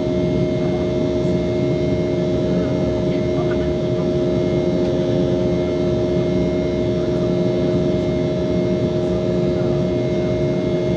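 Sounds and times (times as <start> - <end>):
jet engine drone in cabin: 0.0 - 10.9.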